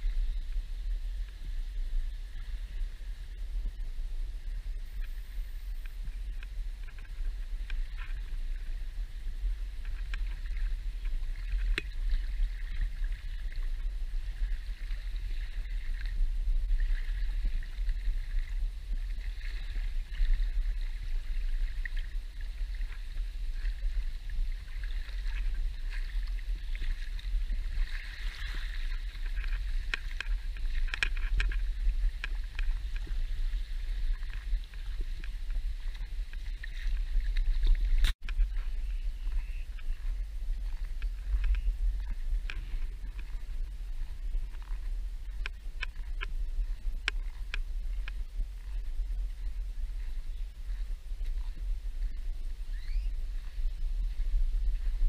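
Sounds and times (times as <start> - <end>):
low rumble: 0.0 - 55.0
sea water lapping: 4.8 - 52.2.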